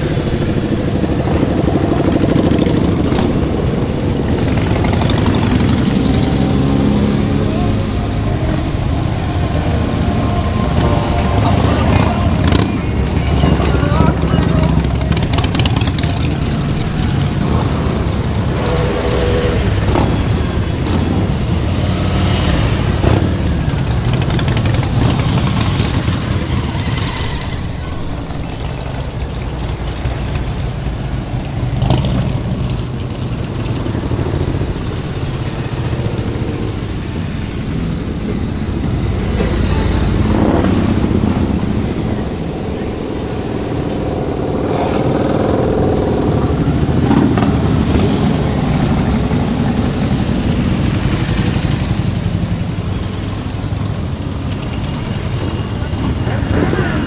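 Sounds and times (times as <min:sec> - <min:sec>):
motorcycle engines running: 0:00.0 - 0:57.0.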